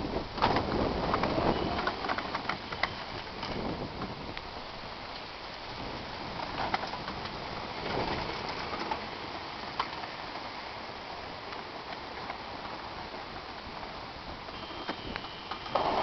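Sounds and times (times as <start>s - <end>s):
golf cart tyres rolling: 0.0s - 16.0s
small crackles and clicks: 0.4s - 4.5s, 6.4s - 10.6s, 11.4s - 16.0s.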